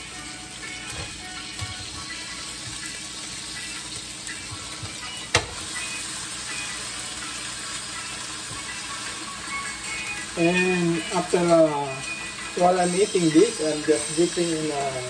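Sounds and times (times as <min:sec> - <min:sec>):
steak sizzling on a grill: 0:00.0 - 0:15.0.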